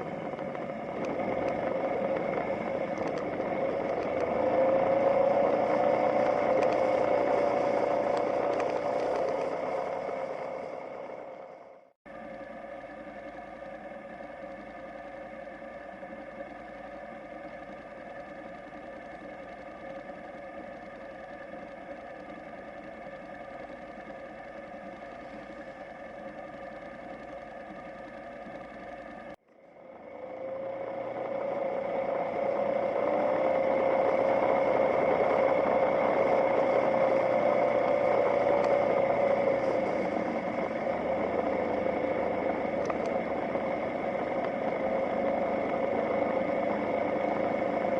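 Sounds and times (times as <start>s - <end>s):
motorcycle engine drone: 0.0s - 47.9s.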